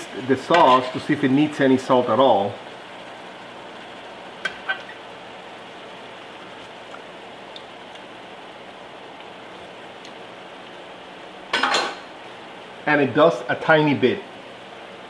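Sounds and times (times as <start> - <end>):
food sizzling in a skillet: 0.0 - 12.8.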